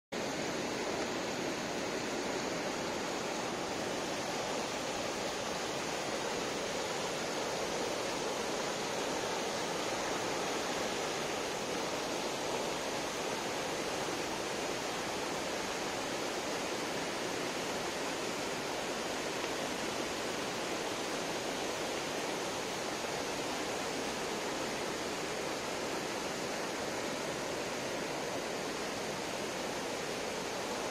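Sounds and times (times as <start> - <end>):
river rushing over boulders: 0.2 - 30.9.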